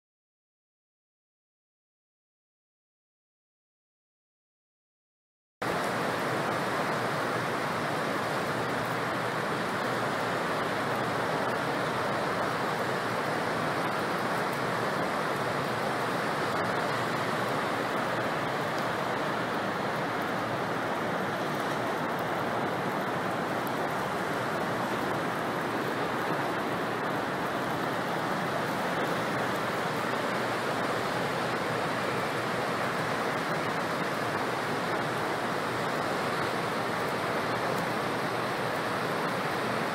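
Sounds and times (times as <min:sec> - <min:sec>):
floodwater rushing through dam: 0:05.6 - 0:39.9.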